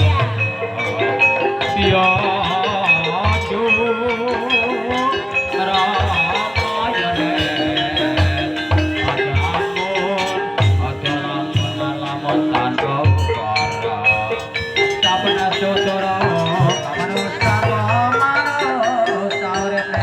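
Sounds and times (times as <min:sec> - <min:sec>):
deep hand-drum strokes: 0:00.0 - 0:18.8
struck metallophone melody: 0:00.0 - 0:20.0.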